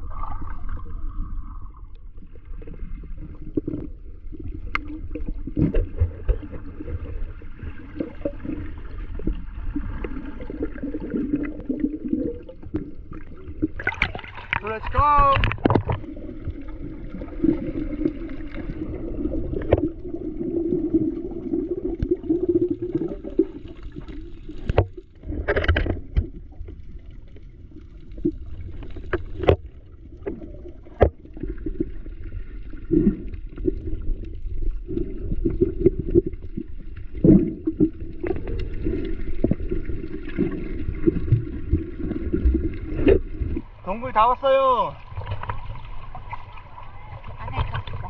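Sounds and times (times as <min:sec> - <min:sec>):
water sloshing and gurgling: 0:00.0 - 0:48.0
water splashes: 0:00.0 - 0:48.0.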